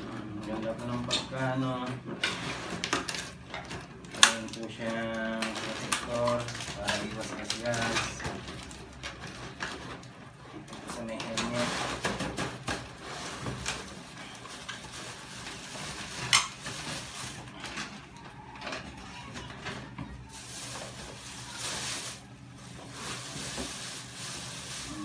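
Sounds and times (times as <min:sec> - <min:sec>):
plastic packaging rustling: 0:00.4 - 0:25.0.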